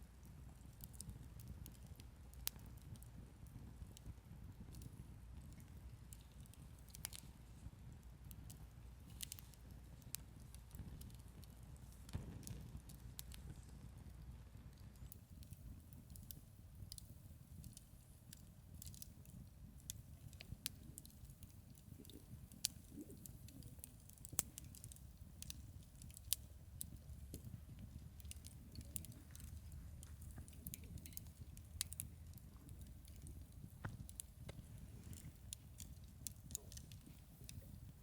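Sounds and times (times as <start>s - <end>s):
campfire crackling and popping: 0.1s - 38.0s.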